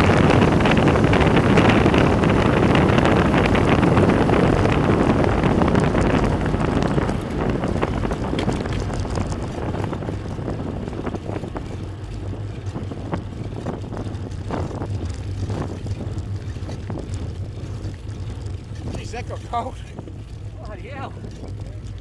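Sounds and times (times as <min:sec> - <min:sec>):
wind buffeting microphone: 0:00.0 - 0:22.0
faint ticks: 0:03.6 - 0:22.0.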